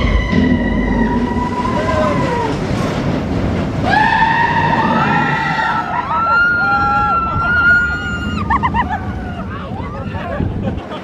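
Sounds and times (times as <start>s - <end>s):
riders screaming: 0.0s - 2.6s, 3.8s - 10.2s
roller coaster train rumbling: 0.0s - 11.0s.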